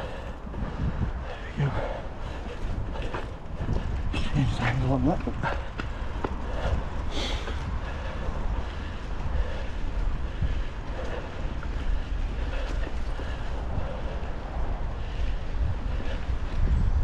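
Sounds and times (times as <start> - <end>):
bike tyre and trail noise: 0.0 - 17.0
wind buffeting microphone: 0.0 - 17.0.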